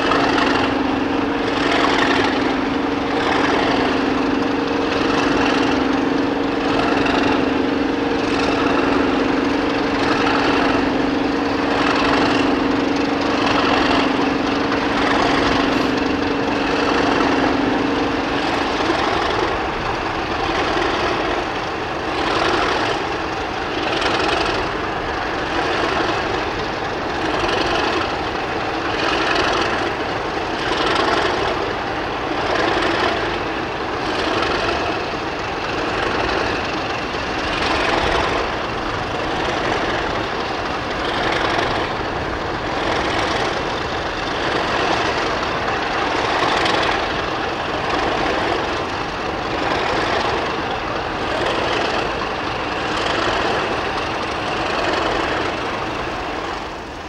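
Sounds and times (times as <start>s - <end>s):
diesel locomotives idling: 0.0s - 57.0s.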